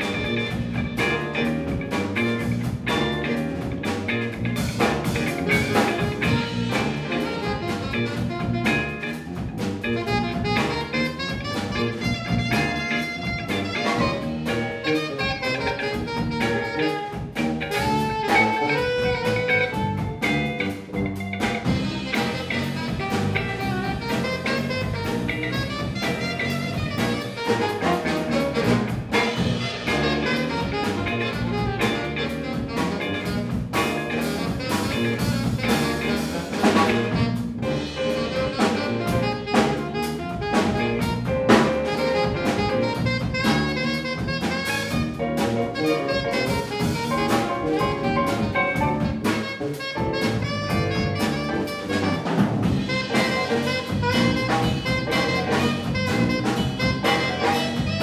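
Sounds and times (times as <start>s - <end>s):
drum kit: 0.0s - 58.0s
electric bass: 0.0s - 58.0s
electric guitar: 0.0s - 58.0s
piano: 0.0s - 58.0s
saxophones and horns: 0.0s - 58.0s.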